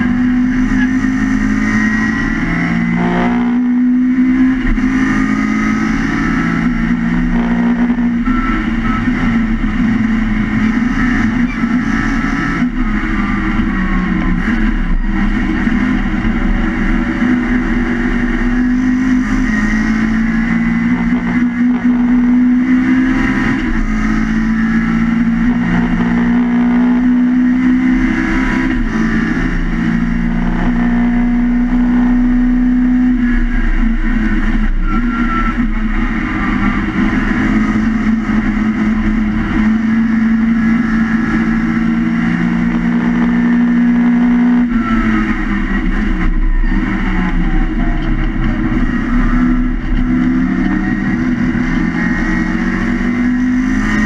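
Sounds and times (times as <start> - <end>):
race car engine at high revs: 0.0 - 54.0
road and wind noise: 0.0 - 54.0.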